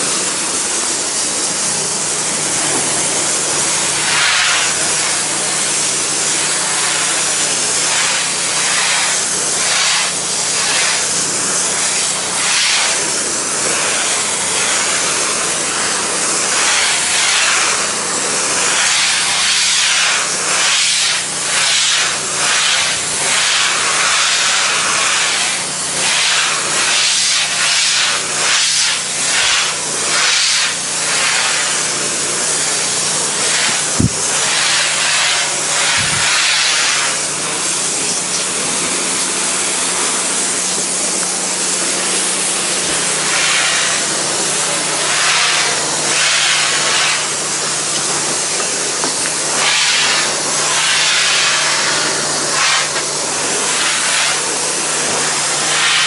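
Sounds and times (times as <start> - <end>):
pressure washer motor hum: 0.0 - 56.0
pressure washer spray hiss: 0.0 - 56.0.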